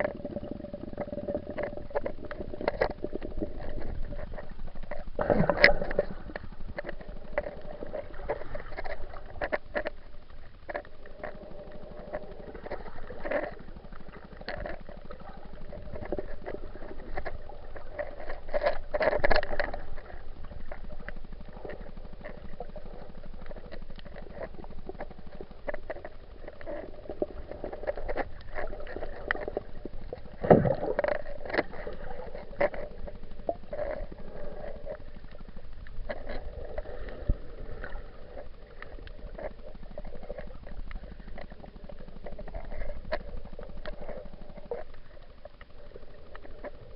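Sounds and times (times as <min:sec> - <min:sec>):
muffled underwater water noise: 0:00.0 - 0:46.9
small clicks and knocks: 0:00.0 - 0:46.9.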